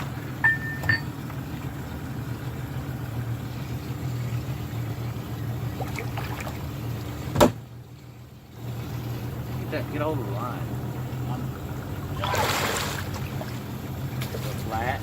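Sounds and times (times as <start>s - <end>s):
motor engine humming: 0.0s - 15.0s.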